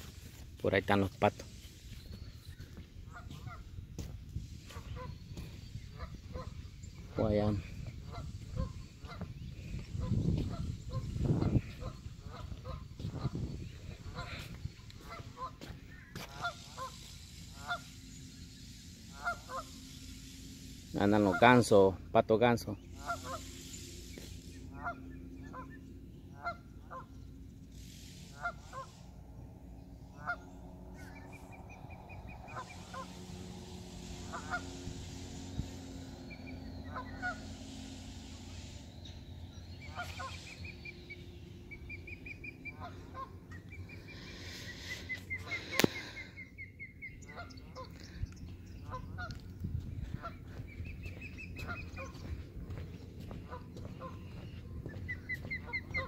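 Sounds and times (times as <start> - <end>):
geese honking: 0.0 - 56.0
small birds singing: 0.0 - 56.0.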